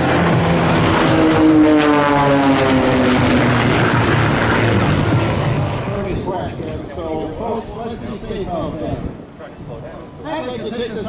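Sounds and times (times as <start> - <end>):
propeller planes droning past: 0.0 - 11.0.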